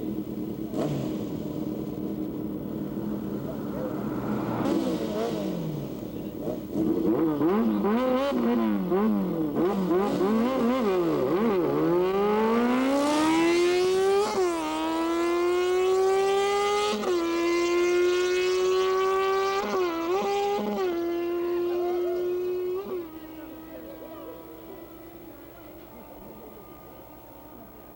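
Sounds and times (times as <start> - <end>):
motorcycle accelerating: 0.0 - 27.9
motorcycle engine revving: 0.0 - 27.9.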